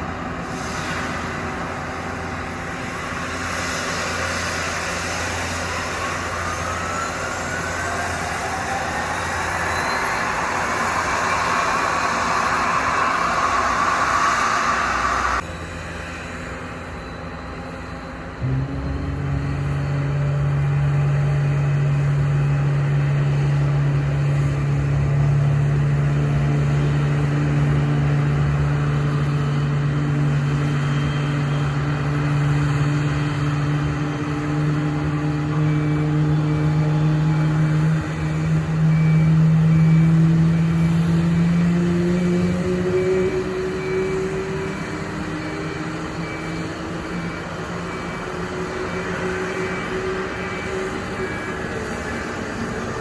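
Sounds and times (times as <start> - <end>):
jet engines humming: 0.0 - 53.0.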